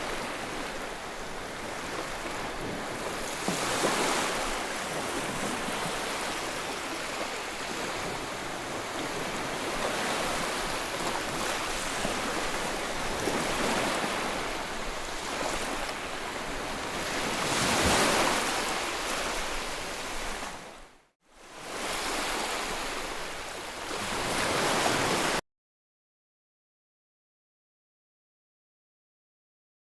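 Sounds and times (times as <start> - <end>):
sea waves washing on shore: 0.0 - 25.4.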